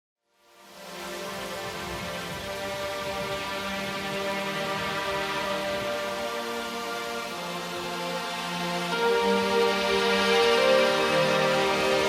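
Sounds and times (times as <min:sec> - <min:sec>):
sustained chord background music: 0:00.3 - 0:12.0.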